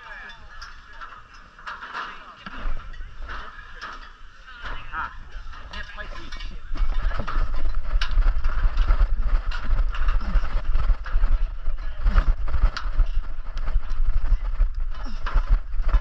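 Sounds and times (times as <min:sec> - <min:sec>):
camera microphone rumble: 0:00.4 - 0:16.0.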